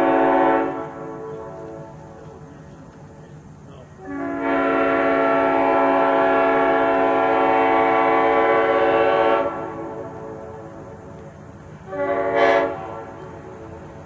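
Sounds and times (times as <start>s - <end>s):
locomotive air horn chord: 0.0s - 2.5s, 4.0s - 11.2s, 11.8s - 14.0s.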